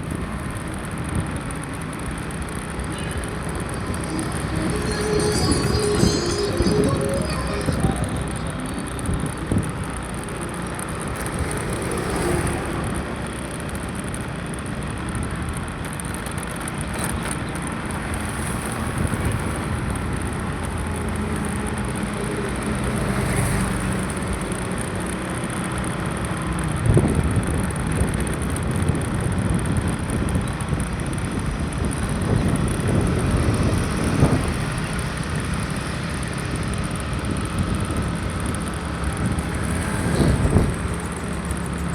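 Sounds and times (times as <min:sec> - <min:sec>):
scooter road rumble: 0:00.0 - 0:04.5, 0:08.1 - 0:41.9.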